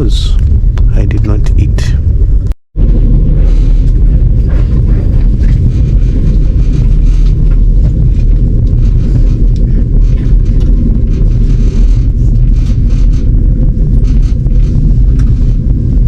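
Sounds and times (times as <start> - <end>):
train rumbling inside carriage: 0.0 - 16.0.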